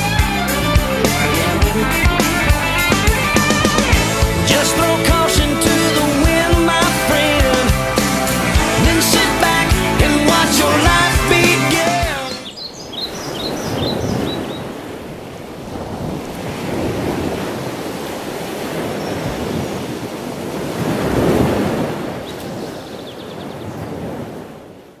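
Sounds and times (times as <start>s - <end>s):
ocean waves washing in: 0.0s - 25.0s.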